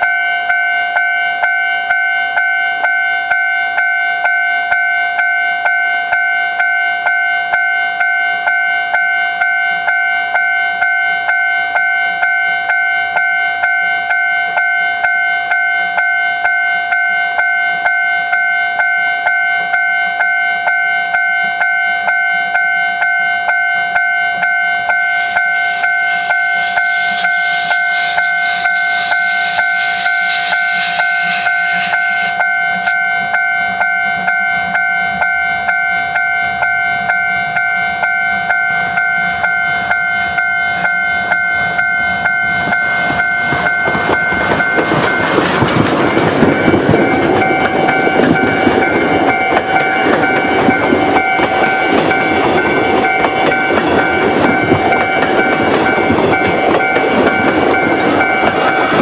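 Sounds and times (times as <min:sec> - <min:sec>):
level crossing alarm bell: 0:00.0 - 0:59.0
train clattering over rails: 0:00.0 - 0:59.0.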